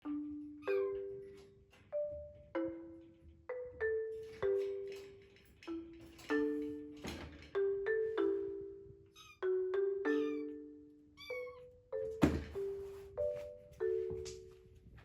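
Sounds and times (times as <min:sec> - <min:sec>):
gentle mallet percussion melody: 0:00.0 - 0:15.0.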